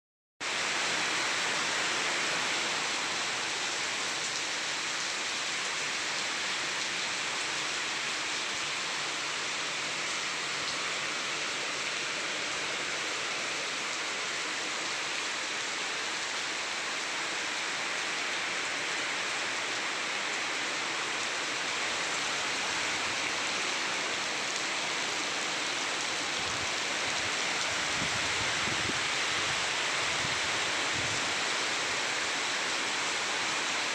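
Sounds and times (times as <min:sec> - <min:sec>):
heavy rain falling: 0:00.4 - 0:33.9.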